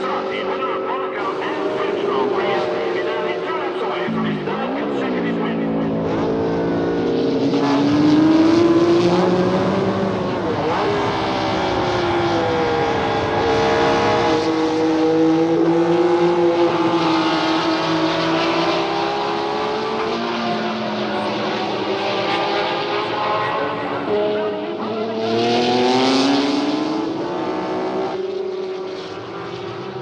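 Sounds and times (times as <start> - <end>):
racing car engines: 0.0 - 30.0.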